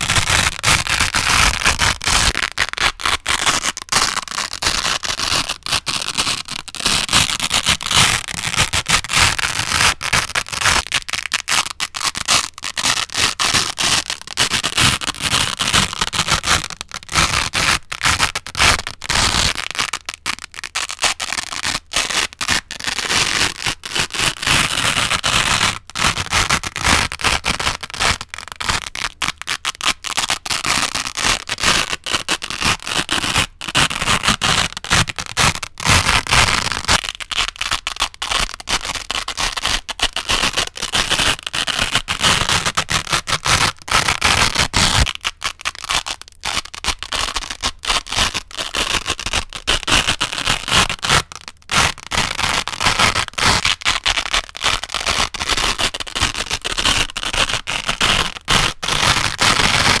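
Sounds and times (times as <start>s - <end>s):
velcro ripping: 0.0s - 60.0s.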